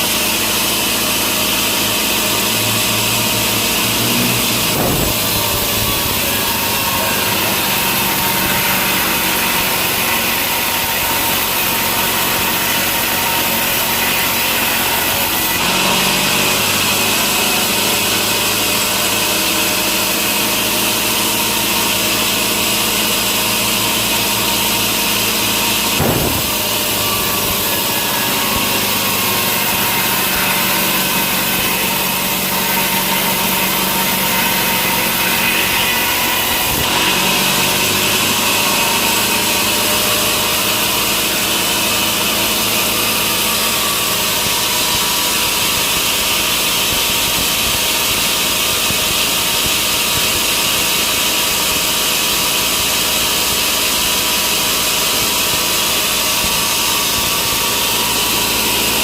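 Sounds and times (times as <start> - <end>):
motor drone: 0.0 - 59.0
saw cutting wood: 0.0 - 59.0.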